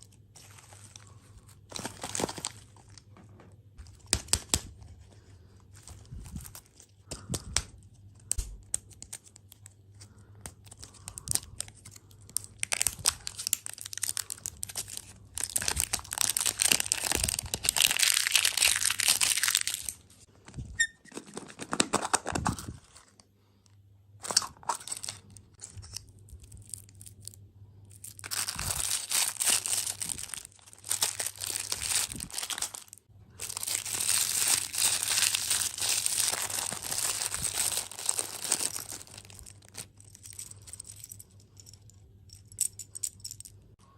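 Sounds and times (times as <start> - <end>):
candy packaging crinkling: 0.0 - 3.2, 3.8 - 23.3, 24.2 - 41.2.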